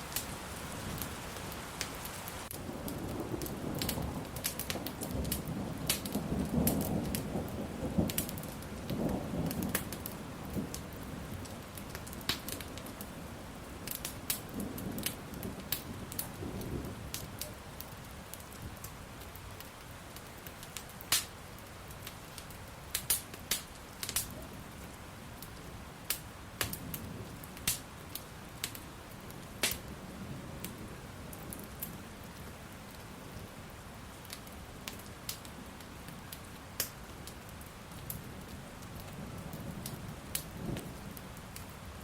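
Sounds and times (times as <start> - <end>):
rain: 0.0 - 42.0
wood fire crackling: 0.0 - 42.0.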